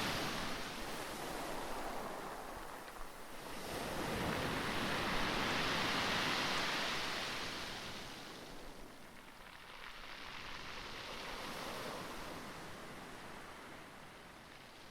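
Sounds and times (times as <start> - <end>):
wind: 0.0 - 14.9.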